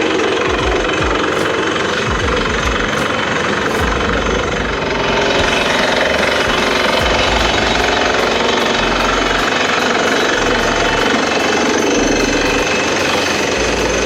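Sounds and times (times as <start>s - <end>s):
drilling rig pounding: 0.0s - 14.0s.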